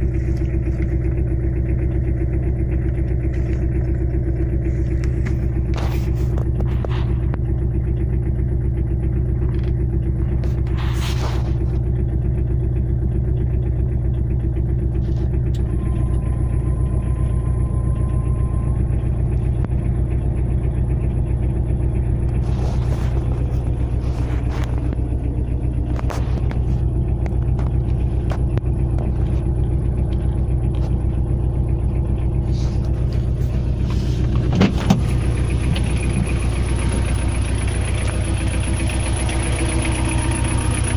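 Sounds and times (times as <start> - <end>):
car engine running with knock: 0.0 - 40.9.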